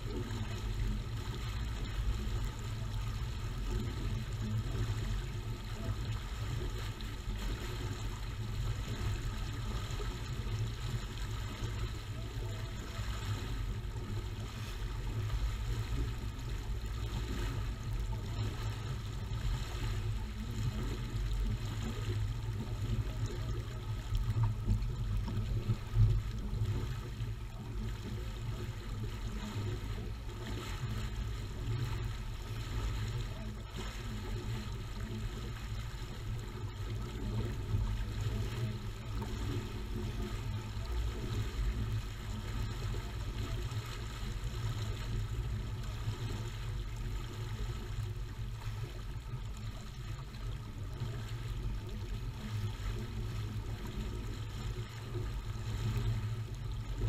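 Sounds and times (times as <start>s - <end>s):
water rushing along a hull: 0.0s - 57.0s
wind rumble on microphone: 0.0s - 57.0s.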